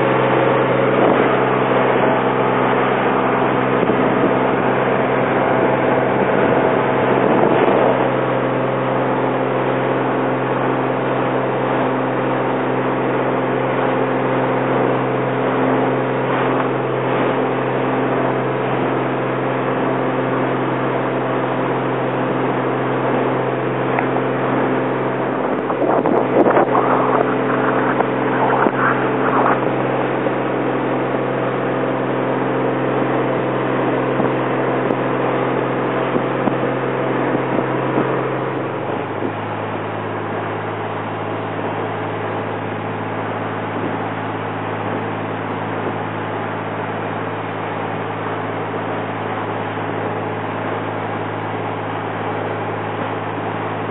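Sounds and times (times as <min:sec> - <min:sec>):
boat engine running: 0:00.0 - 0:53.9
water splashing against hull: 0:00.0 - 0:53.9.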